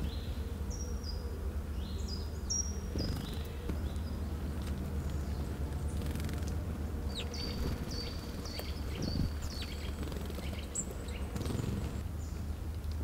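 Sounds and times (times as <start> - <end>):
songbird calling: 0.0 - 12.6
steady low rumble: 0.0 - 13.0.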